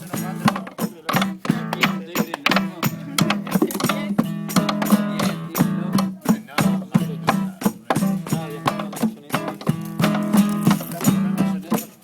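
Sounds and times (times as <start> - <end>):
strummed guitar music with percussion: 0.0 - 12.0.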